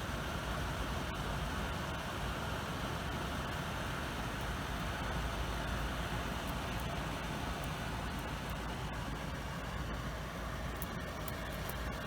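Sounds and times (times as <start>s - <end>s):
air purifier fan hum: 0.0s - 12.0s.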